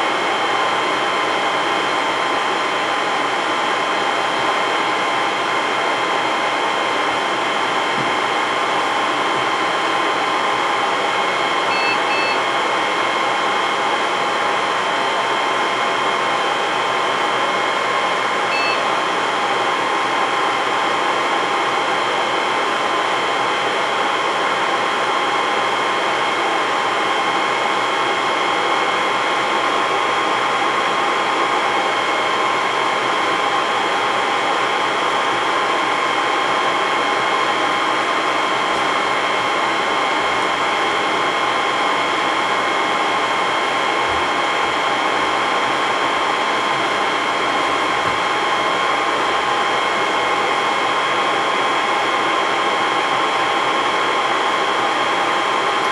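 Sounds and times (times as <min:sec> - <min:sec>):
server cooling fans running: 0:00.0 - 0:55.9.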